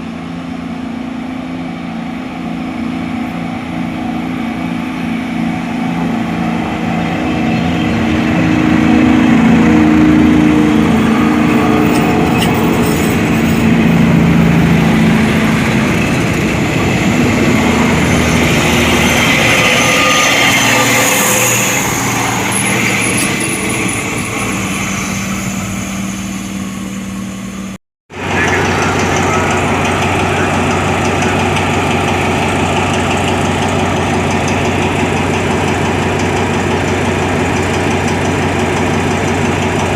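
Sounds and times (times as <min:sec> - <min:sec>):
diesel locomotive engine throbbing: 0:00.0 - 0:39.9.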